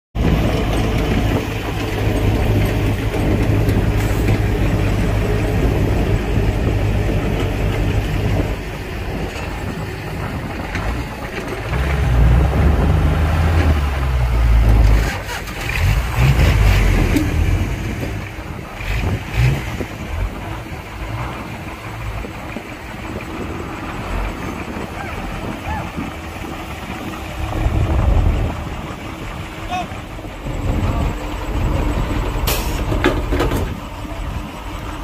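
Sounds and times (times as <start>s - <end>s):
diesel machinery engine drone: 0.2s - 35.0s.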